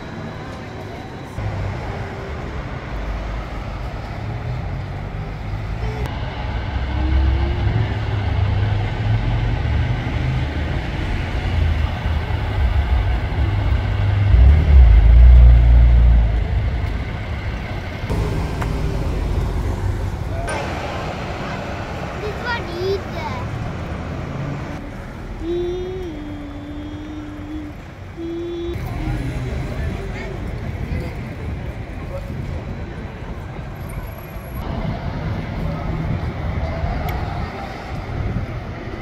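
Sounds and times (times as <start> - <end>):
buses and cars passing: 0.0 - 39.0
heavy low rumble: 1.4 - 33.6.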